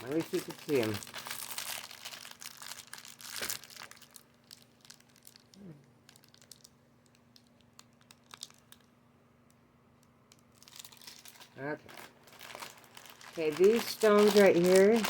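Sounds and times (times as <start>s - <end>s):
plastic packaging crinkling: 0.0s - 9.1s, 10.3s - 15.0s.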